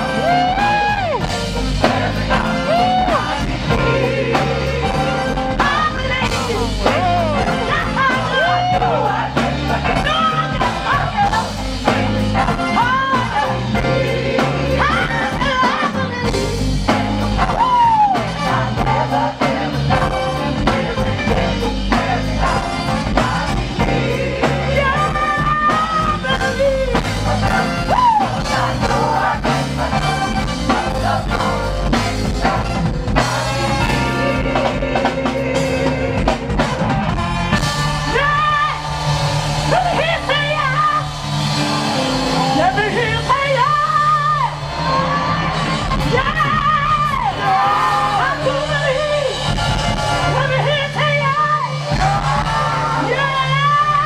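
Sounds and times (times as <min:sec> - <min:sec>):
woman singing lead: 0:00.0 - 0:36.6, 0:39.7 - 0:49.5, 0:50.2 - 0:54.0
choir singing: 0:00.0 - 0:50.8, 0:51.7 - 0:54.0
bass guitar: 0:00.0 - 0:54.0
drum kit: 0:00.0 - 0:54.0.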